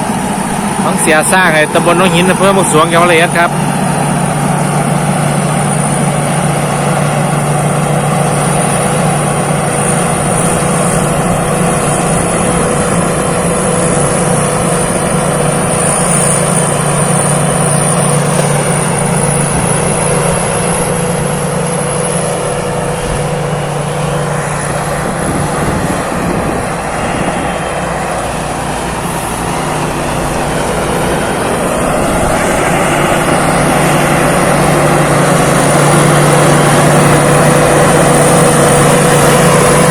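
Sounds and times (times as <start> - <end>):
combine harvester engine hum: 0.0 - 39.9
high steady whine: 0.0 - 39.9.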